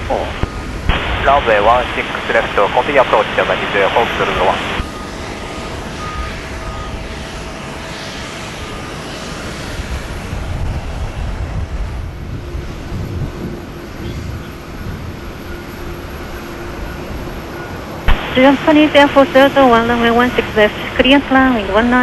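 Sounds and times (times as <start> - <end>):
faint steady whine: 0.0 - 22.0
jet engines rushing: 0.0 - 22.0.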